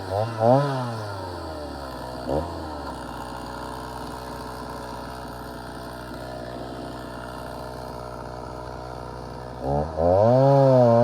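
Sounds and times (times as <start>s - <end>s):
chainsaw idling: 0.0s - 11.0s.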